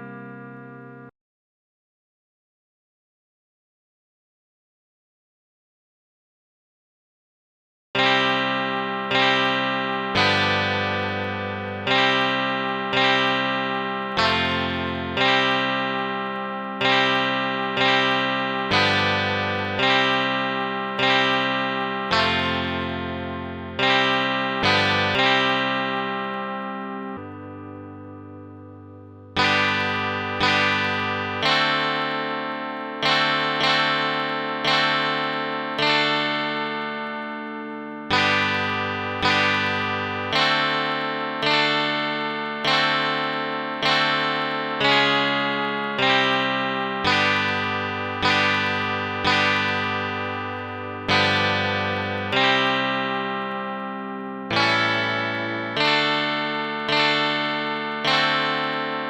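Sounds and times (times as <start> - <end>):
plucked guitar-like chords: 0.0 - 1.1, 8.0 - 59.0.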